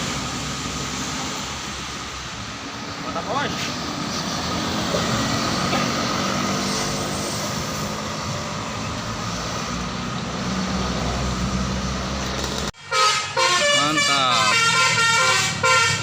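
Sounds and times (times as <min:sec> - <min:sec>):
heavy vehicle engine droning: 0:00.0 - 0:16.0
road and traffic noise: 0:00.0 - 0:16.0.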